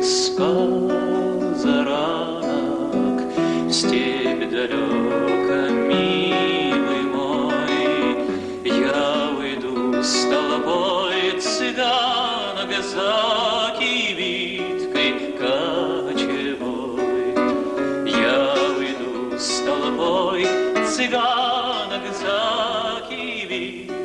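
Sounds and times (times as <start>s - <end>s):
acoustic guitar: 0.0s - 24.0s
man singing with vibrato: 0.0s - 24.0s.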